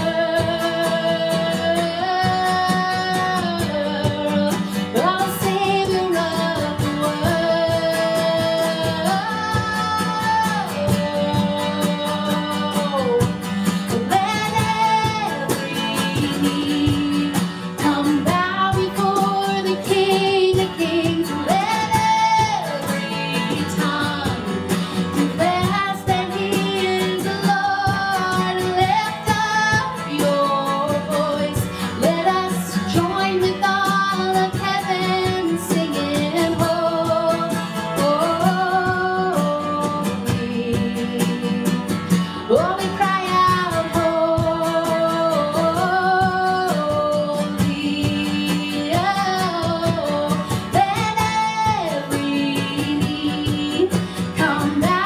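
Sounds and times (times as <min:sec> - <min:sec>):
acoustic guitar: 0:00.0 - 0:55.0
woman singing worship song: 0:00.0 - 0:55.0.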